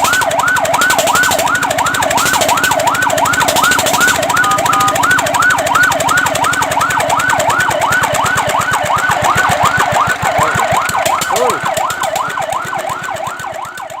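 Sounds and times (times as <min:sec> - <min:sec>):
fire truck siren yelping: 0:00.0 - 0:14.0.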